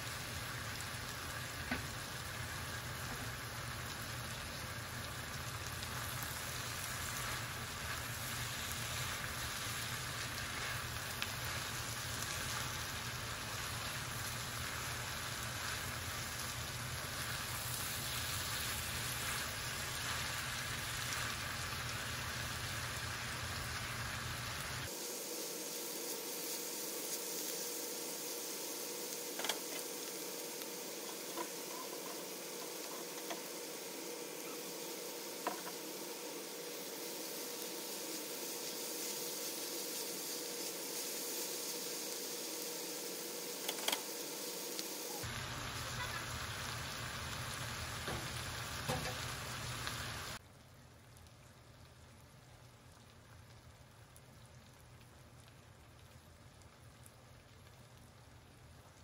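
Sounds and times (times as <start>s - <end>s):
vegetables sizzling in a skillet: 0.0s - 50.4s.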